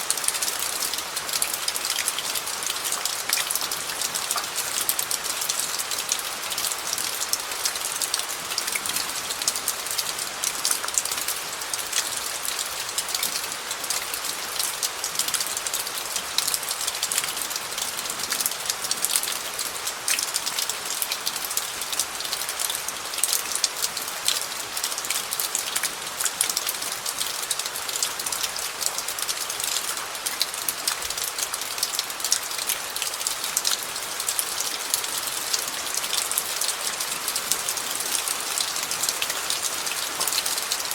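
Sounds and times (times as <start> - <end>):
rain falling on gravel: 0.0 - 40.9.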